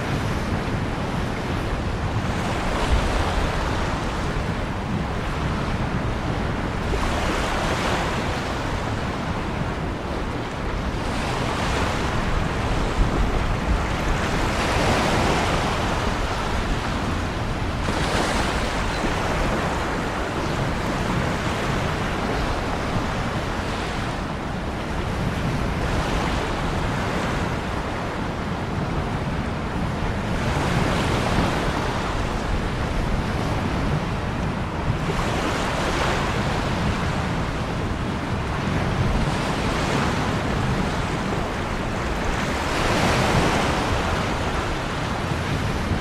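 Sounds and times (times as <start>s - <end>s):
ocean waves on shore: 0.0s - 46.0s.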